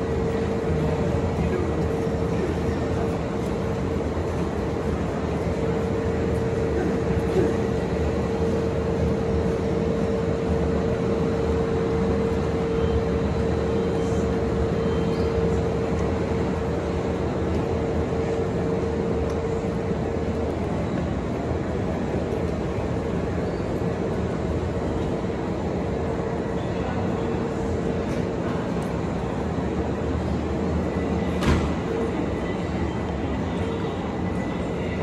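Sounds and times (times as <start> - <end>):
electric train humming: 0.0 - 35.0.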